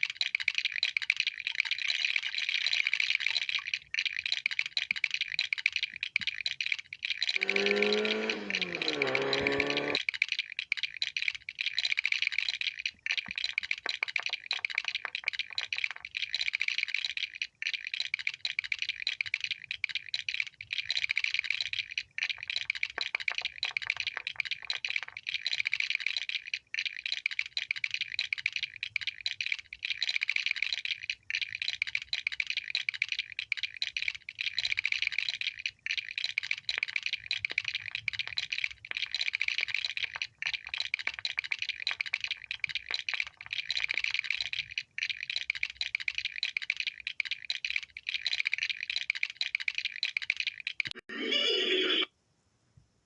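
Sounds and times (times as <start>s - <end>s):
plastic bricks clicking together: 0.0s - 51.0s.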